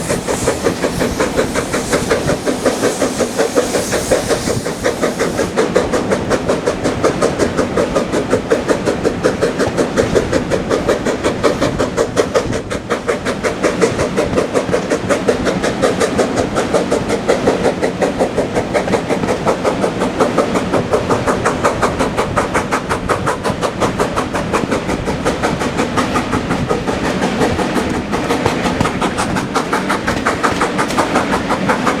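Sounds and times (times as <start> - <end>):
steam locomotive chugging: 0.0 - 32.0.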